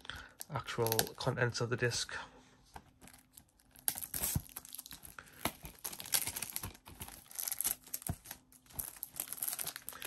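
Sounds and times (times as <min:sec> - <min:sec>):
shrink-wrap crinkling: 0:00.0 - 0:01.3, 0:02.9 - 0:10.0.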